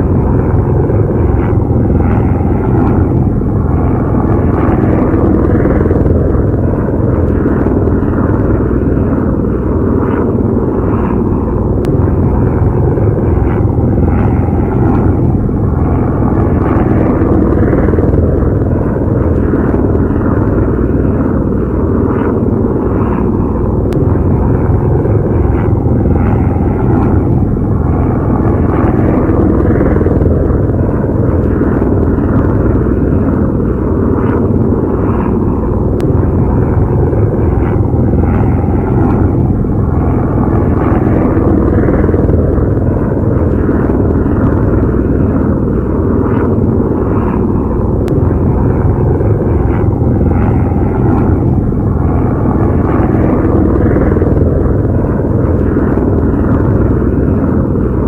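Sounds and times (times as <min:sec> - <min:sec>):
faint steady hum: 0:00.0 - 0:58.0
loud low rumbling: 0:00.0 - 0:58.0.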